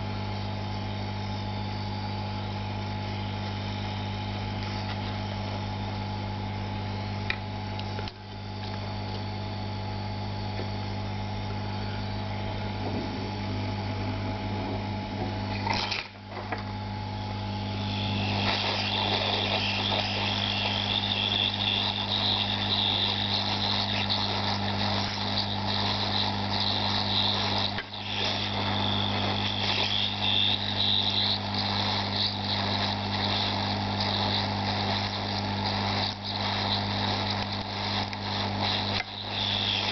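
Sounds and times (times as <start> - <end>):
hot-air station blowing: 0.0 - 39.9.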